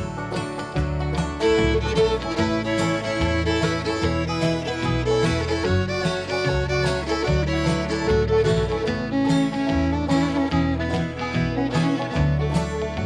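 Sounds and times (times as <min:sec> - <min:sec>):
fiddle melody: 0:00.0 - 0:13.0
strummed guitar: 0:00.0 - 0:13.0
walking bass: 0:00.0 - 0:13.0.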